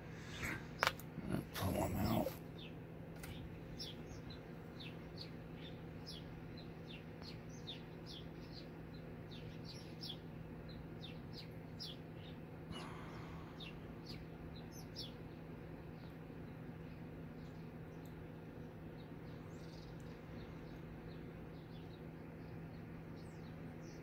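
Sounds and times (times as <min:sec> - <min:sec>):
steady low hum: 0:00.0 - 0:24.0
small bird chirping: 0:00.1 - 0:24.0.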